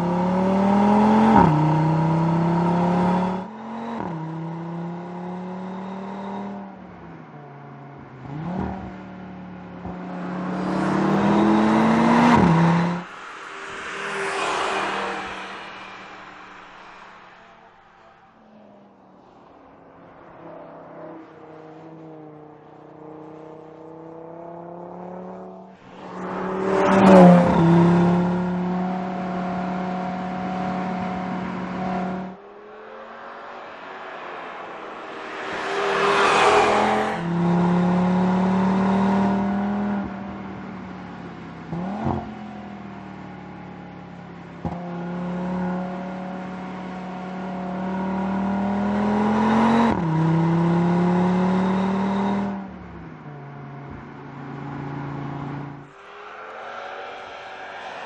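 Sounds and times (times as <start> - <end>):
car engine revving through gears: 0.0 - 6.8, 7.6 - 17.4, 21.5 - 58.0.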